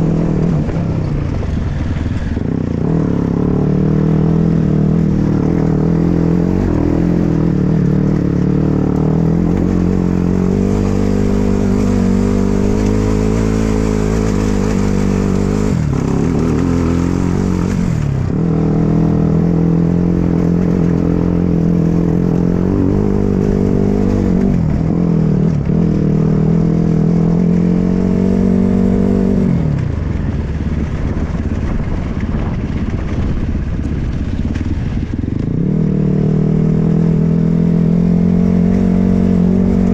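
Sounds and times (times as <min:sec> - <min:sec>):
dirt bike engine revving: 0:00.0 - 0:29.8, 0:34.9 - 0:39.9.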